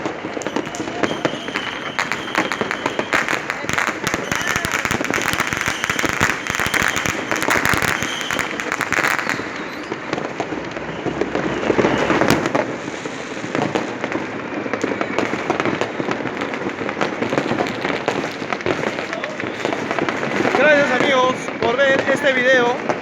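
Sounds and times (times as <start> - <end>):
fireworks crackling: 0.0 - 23.0.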